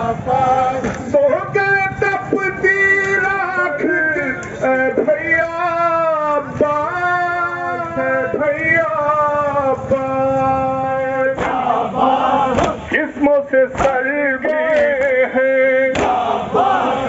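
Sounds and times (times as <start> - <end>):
man singing lament into microphone: 0.0 - 11.5, 12.5 - 16.1.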